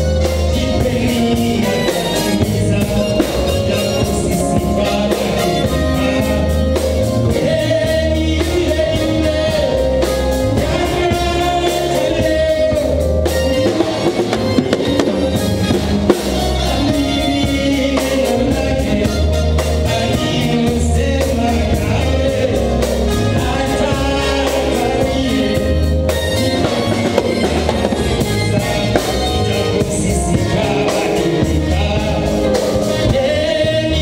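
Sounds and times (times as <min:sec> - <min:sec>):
bass line: 0:00.0 - 0:34.0
choir singing gospel song: 0:00.0 - 0:34.0
drum kit: 0:00.0 - 0:34.0.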